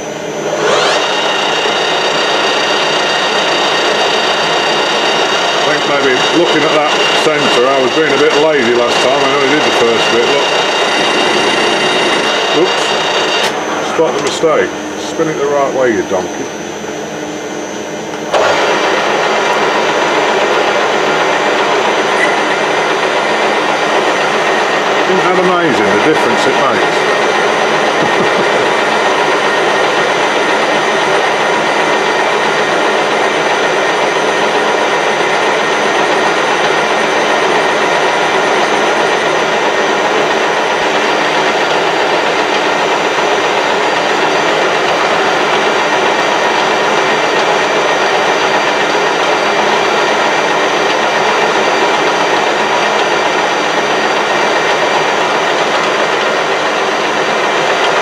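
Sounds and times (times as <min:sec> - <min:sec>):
metal lathe whirring: 0:00.0 - 0:58.0.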